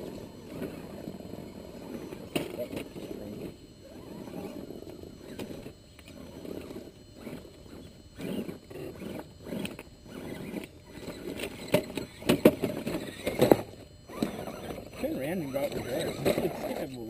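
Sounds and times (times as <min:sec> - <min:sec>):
rc car motors growling: 0:00.0 - 0:17.0.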